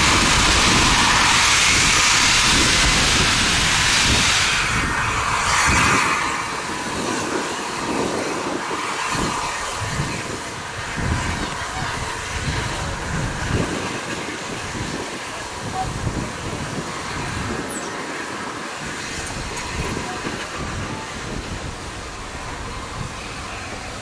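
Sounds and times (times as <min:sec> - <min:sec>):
loud steam hiss: 0:00.0 - 0:24.0.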